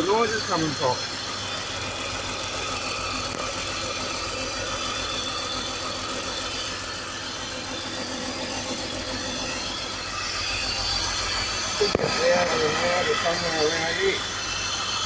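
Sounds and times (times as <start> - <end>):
hissing whine of vacuum leak: 0.0 - 15.0
car engine idling: 1.0 - 14.4.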